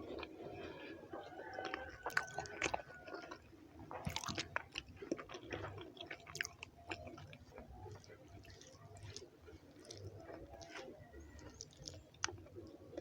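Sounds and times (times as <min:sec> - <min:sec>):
close chewing mouth clicks: 0:00.0 - 0:13.0.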